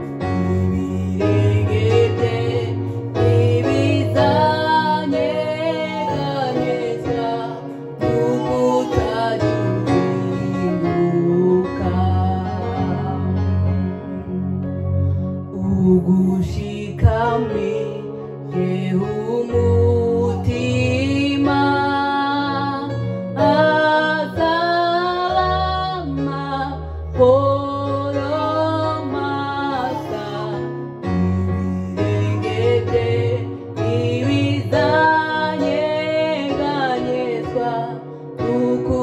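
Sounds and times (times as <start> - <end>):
electronic keyboard chords: 0.0 - 39.0
woman singing into microphone: 0.3 - 13.4, 15.6 - 31.4, 32.1 - 39.0.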